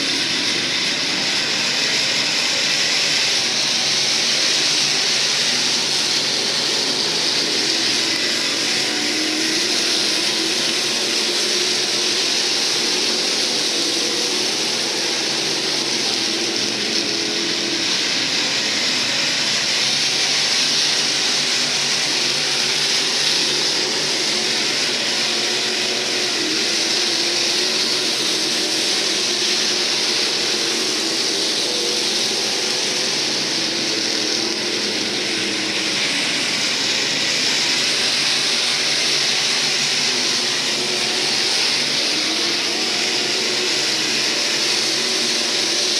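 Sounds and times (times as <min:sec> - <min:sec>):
race car engines droning: 0:00.0 - 0:45.9.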